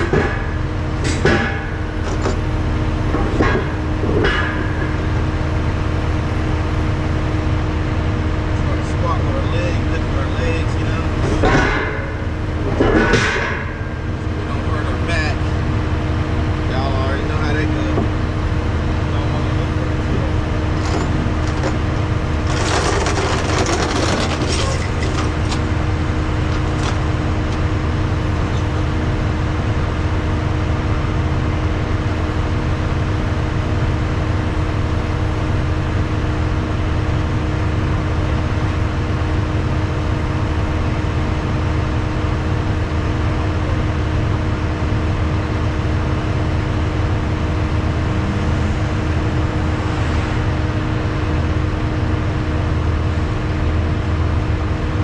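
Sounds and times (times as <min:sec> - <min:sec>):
road noise: 0:00.0 - 0:55.0
truck diesel engine driving: 0:00.0 - 0:55.0.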